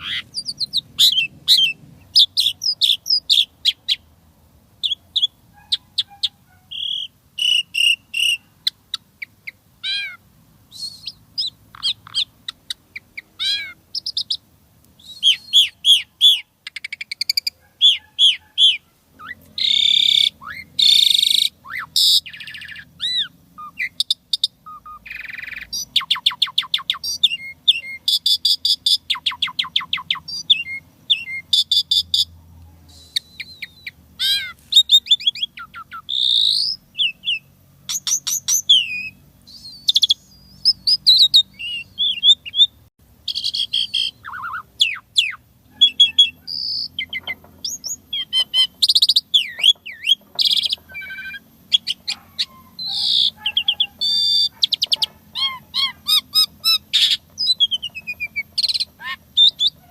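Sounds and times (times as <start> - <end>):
starling singing: 0.0 - 4.2, 4.8 - 59.9.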